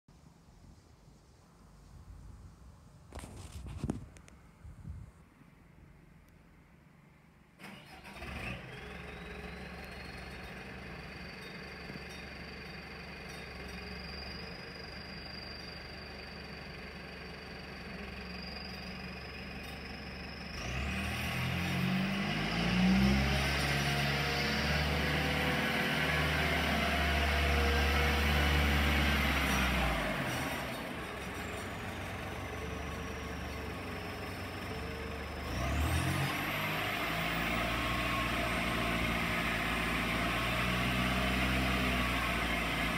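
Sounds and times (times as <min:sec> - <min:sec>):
diesel engine revving: 0:07.6 - 0:42.9.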